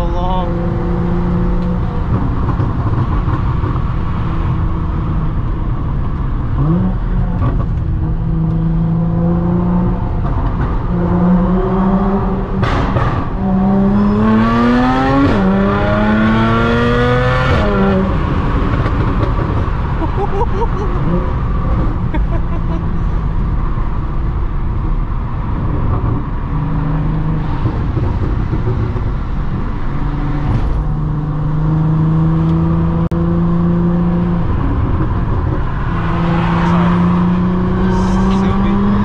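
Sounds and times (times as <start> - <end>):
car engine cruising and accelerating: 0.0 - 39.0.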